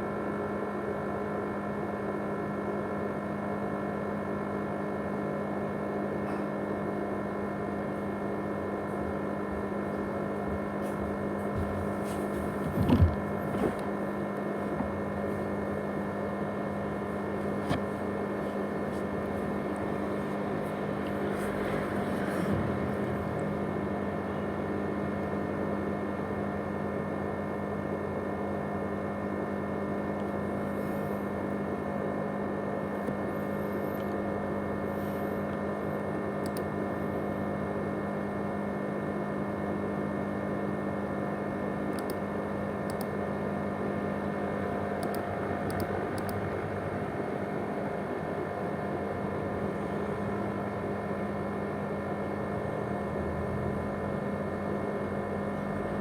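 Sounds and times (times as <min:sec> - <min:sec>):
laptop machine whir and hum: 0:00.0 - 0:56.0.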